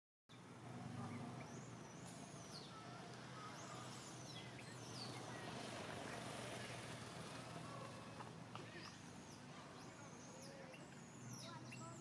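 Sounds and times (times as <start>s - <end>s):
distant vehicle passing: 0.4s - 12.0s.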